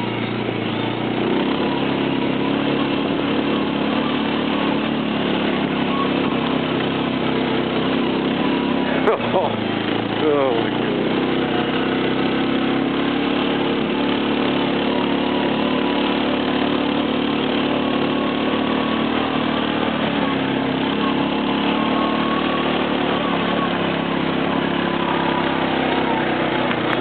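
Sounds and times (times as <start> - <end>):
quad engine running: 0.0 - 27.0.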